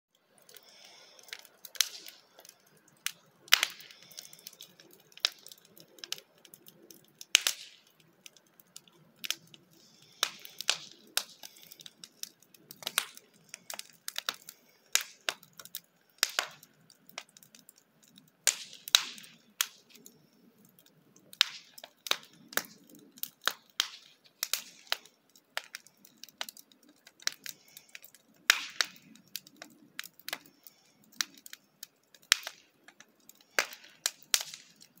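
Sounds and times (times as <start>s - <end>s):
wood fire crackling and popping: 0.1s - 35.0s
low rush of flame: 0.3s - 31.9s.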